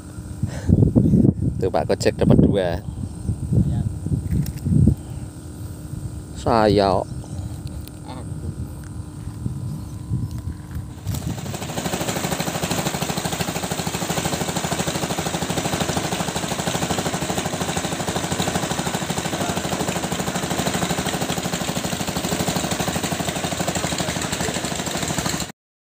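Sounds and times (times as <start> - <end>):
water and wind hiss: 0.0 - 25.5
motorboat engine running: 4.4 - 25.5.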